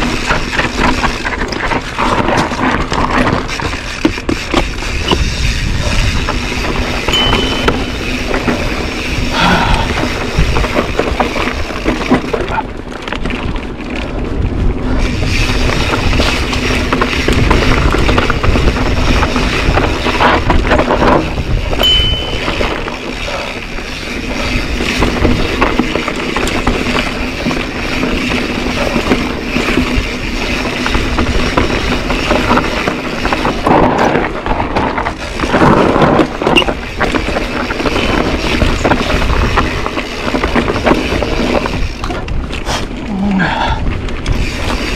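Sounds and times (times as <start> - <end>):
bike rattling over bumps: 0.0 - 44.9
tyres rolling over dirt: 0.0 - 44.9
wind buffeting microphone: 0.0 - 44.9.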